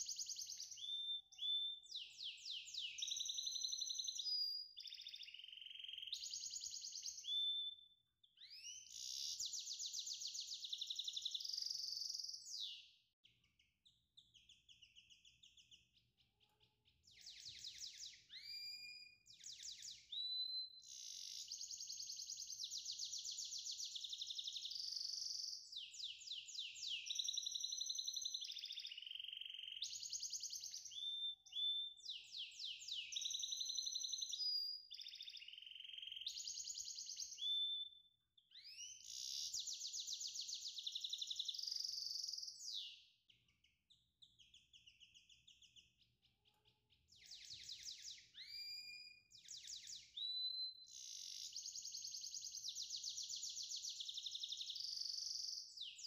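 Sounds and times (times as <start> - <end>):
songbird singing trills and whistles: 0.0 - 56.0.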